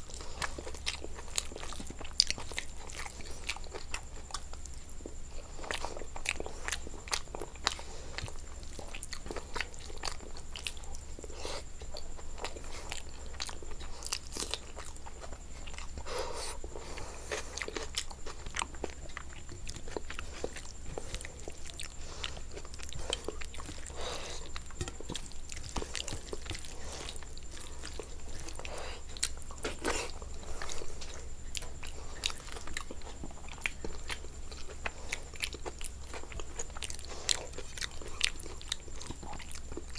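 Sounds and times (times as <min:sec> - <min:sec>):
chewing and crunching food: 0:00.0 - 0:39.9
steady low hum: 0:00.0 - 0:39.9.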